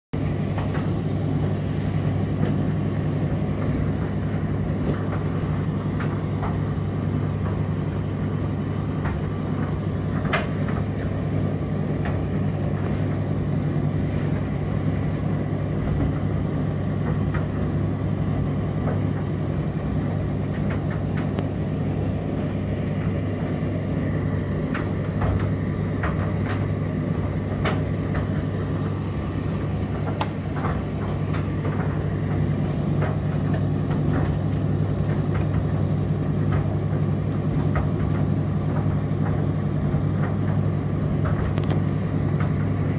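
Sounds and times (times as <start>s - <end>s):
tumble dryer humming: 0.1s - 42.9s.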